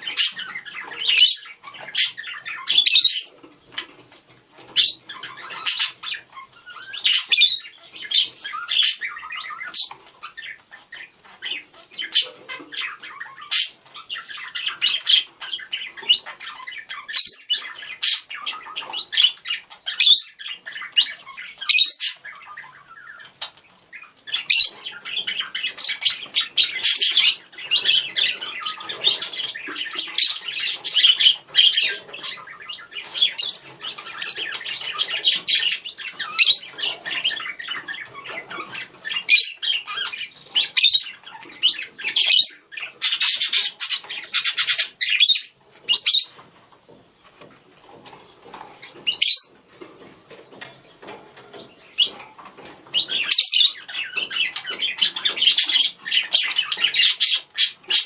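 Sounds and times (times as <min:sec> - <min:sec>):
budgerigars chirping and squawking: 0:00.0 - 0:58.0.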